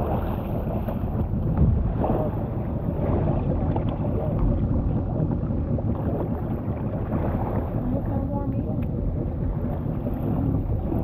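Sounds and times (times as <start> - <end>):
sea water sloshing around legs: 0.0 - 11.0
wind rumbling on microphone: 0.0 - 11.0.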